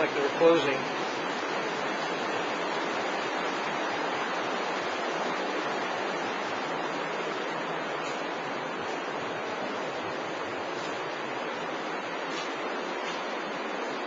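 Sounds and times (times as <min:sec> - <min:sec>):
sewer water rushing: 0:00.0 - 0:14.0.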